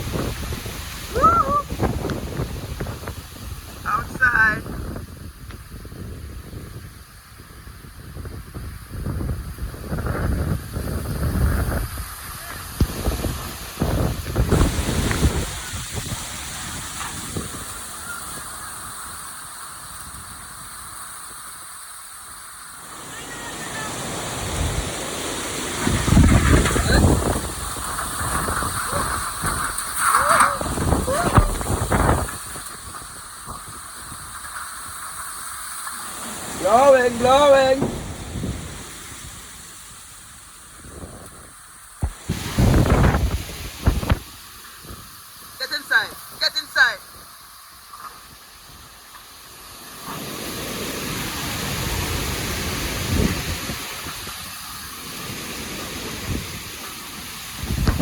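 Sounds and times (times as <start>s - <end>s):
strong wind buffeting microphone: 0.0s - 22.0s, 22.9s - 45.5s, 50.2s - 58.0s
steady high hiss: 0.0s - 58.0s.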